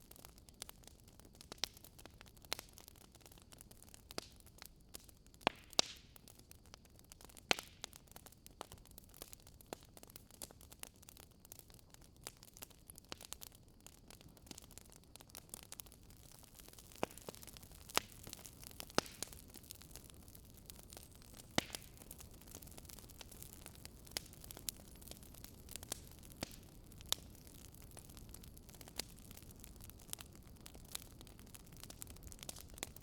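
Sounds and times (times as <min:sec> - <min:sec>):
firewood crackling and popping: 0:00.0 - 0:33.0
soft steady hiss: 0:00.0 - 0:33.0.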